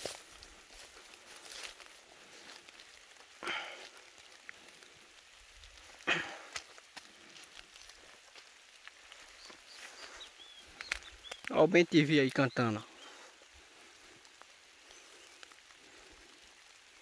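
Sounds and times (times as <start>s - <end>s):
drizzle patter: 0.0s - 17.0s
footsteps through wet grass: 0.0s - 17.0s.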